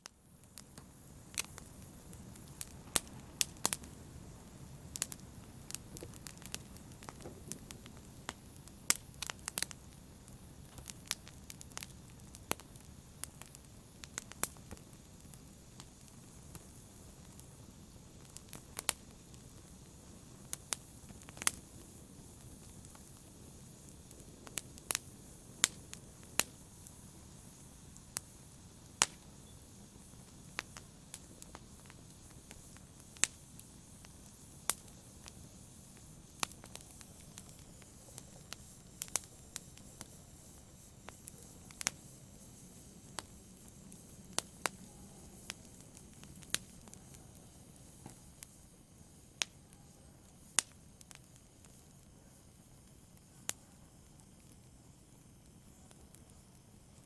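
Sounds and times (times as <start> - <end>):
fire crackling and popping: 0.0 - 57.0
low hiss of flames: 0.0 - 57.0.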